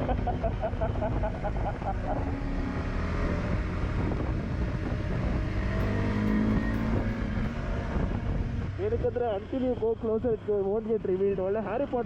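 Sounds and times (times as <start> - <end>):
wind rumble on microphone: 0.0 - 10.9
motorcycle engine running: 0.0 - 12.0.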